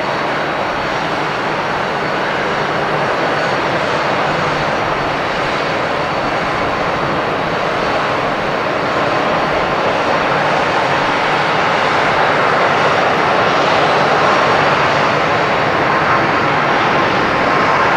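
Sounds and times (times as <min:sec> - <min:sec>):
jet engines roaring: 0:00.0 - 0:17.9.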